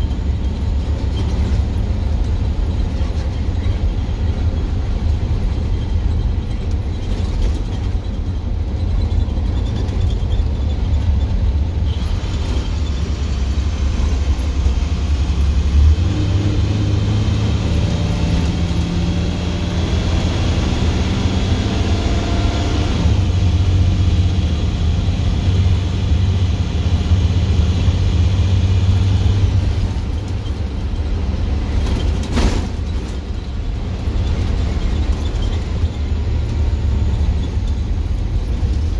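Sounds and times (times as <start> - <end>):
deep diesel exhaust rumble: 0.0 - 38.9.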